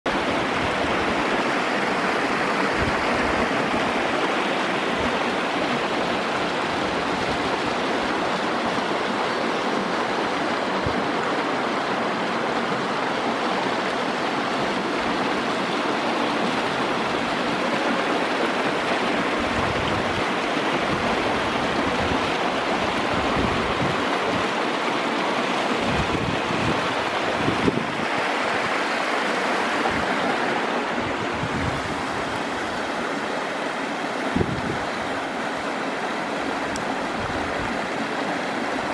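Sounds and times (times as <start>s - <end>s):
creek rushing over shallow bed: 0.1s - 38.9s.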